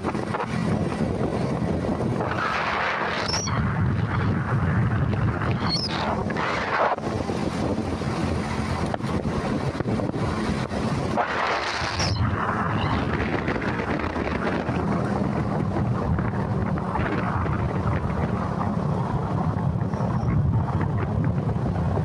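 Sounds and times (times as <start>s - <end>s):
road noise: 0.0s - 22.0s
vehicle engine hum: 0.0s - 22.0s
wind buffeting microphone: 0.0s - 22.0s.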